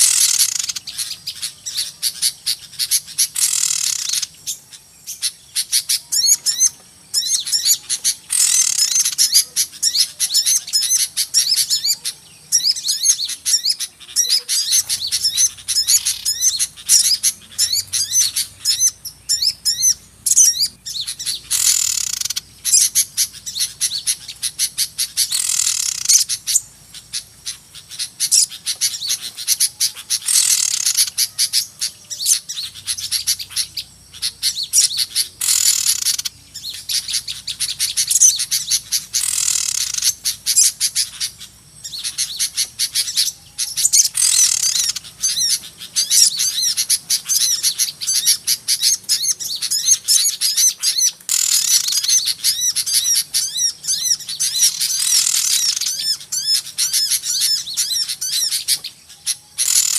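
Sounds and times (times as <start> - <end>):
harsh buzzy bird calls: 0.0 - 59.9
songbirds chirping and trilling: 0.0 - 59.9.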